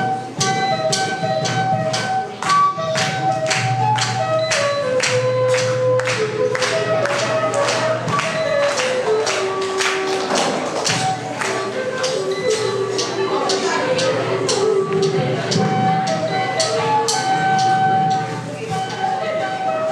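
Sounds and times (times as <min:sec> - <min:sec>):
orchestra melody: 0:00.0 - 0:19.9
percussion beat: 0:00.0 - 0:19.9.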